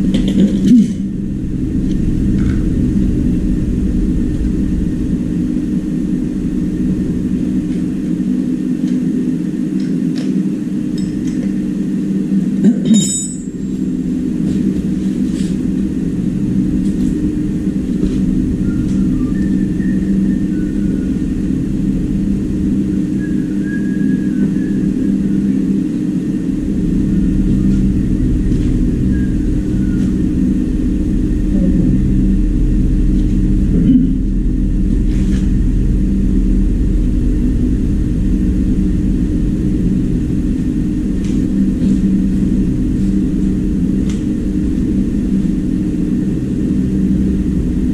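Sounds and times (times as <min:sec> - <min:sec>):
loud mechanical hum: 0:00.0 - 0:47.9.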